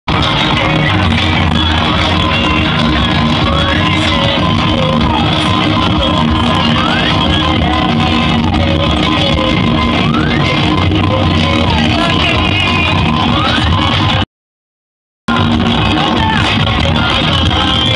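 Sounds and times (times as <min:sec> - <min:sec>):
loud music from car speakers: 0:00.1 - 0:14.2, 0:15.3 - 0:17.9.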